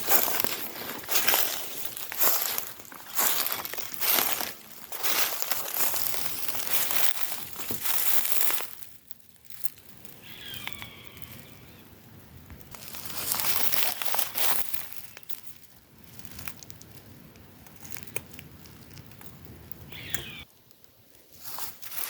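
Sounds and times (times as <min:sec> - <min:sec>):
rustling and crinkling: 0:00.0 - 0:22.0.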